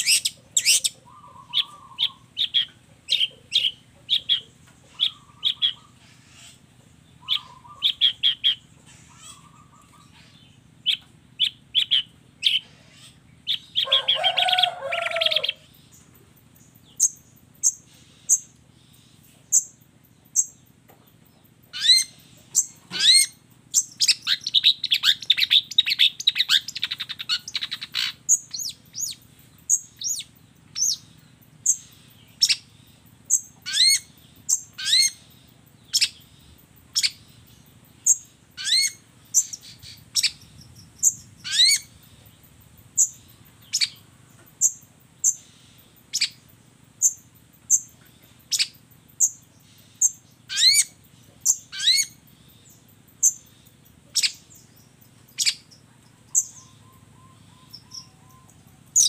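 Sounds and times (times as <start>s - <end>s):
shrike calling: 0.0s - 20.8s, 21.4s - 59.0s.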